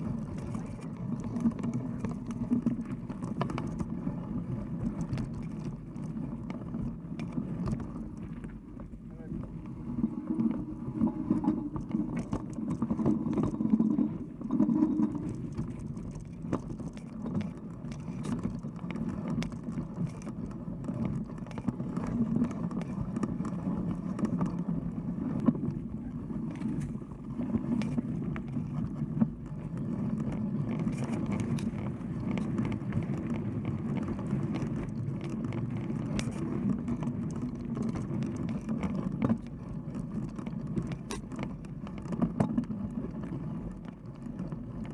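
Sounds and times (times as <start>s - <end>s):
bike clicks and rattles: 0.0s - 9.7s, 10.4s - 44.9s
bike tyres rumbling on dirt: 0.0s - 44.9s.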